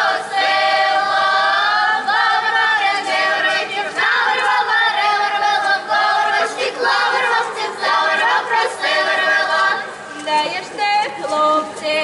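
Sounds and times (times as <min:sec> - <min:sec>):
women and children singing a cappella: 0:00.0 - 0:12.0.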